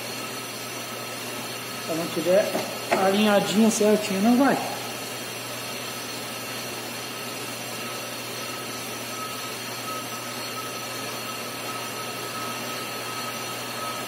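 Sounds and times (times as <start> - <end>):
brake lathe humming and whining: 0.0 - 14.0.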